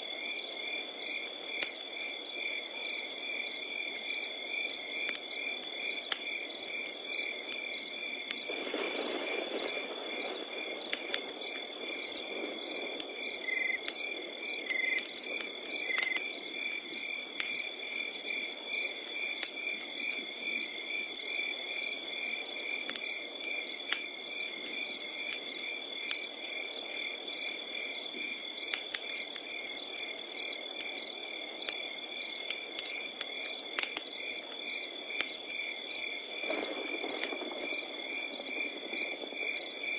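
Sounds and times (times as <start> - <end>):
campfire crackling and popping: 0.0 - 39.9
insect chirping: 0.0 - 39.9
insects trilling: 0.0 - 39.9.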